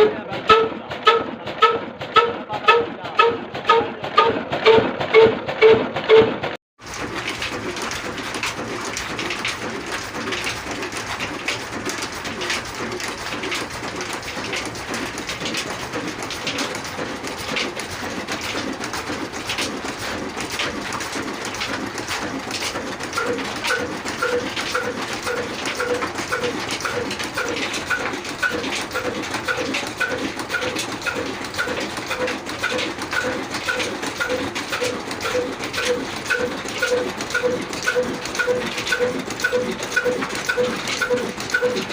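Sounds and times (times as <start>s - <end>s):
slow diesel engine knocking: 0.0s - 41.9s.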